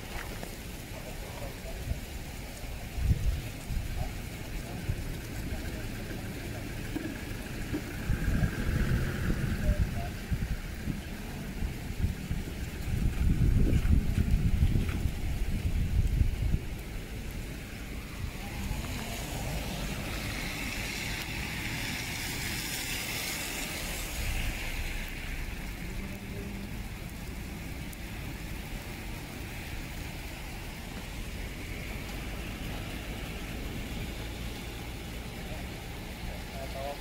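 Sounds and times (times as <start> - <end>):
hail and rain on asphalt: 0.0 - 37.0.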